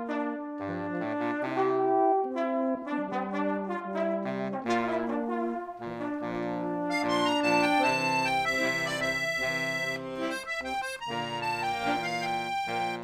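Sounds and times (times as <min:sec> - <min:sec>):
brass ensemble playing: 0:00.0 - 0:13.0.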